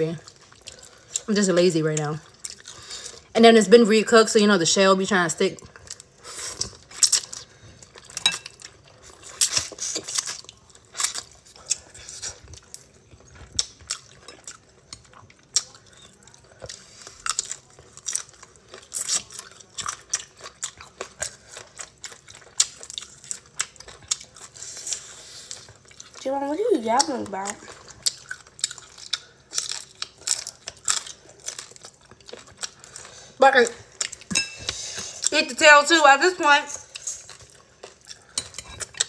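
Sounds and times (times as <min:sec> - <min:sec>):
chewing shell-on shrimp: 0:00.2 - 0:03.3, 0:05.6 - 0:26.2, 0:26.9 - 0:35.4, 0:36.9 - 0:39.0
chewing with wet mouth smacks: 0:01.9 - 0:03.3, 0:05.6 - 0:26.2, 0:27.0 - 0:35.3, 0:36.9 - 0:39.0.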